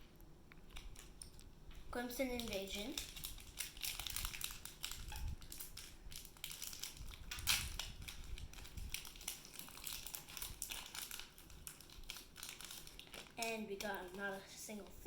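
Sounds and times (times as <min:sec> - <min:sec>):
foil wrapper crinkling and tearing: 0:00.6 - 0:15.0.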